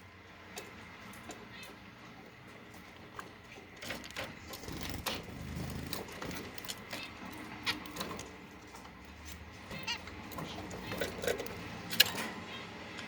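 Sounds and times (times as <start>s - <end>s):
bird pecking and husking seeds: 0.4s - 13.0s.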